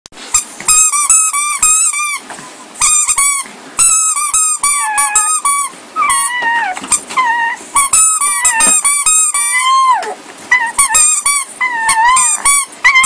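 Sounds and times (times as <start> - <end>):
newborn puppy squealing: 0.7 - 13.0.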